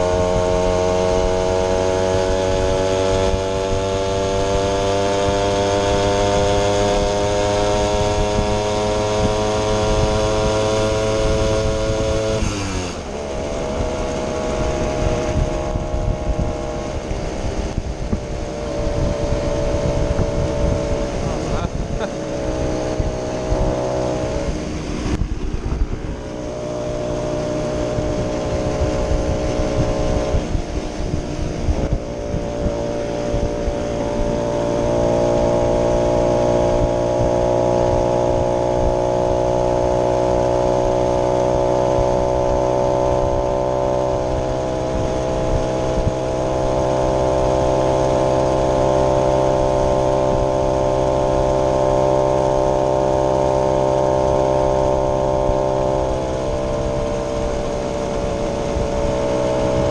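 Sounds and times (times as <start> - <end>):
moped engine running: 0.0 - 59.9.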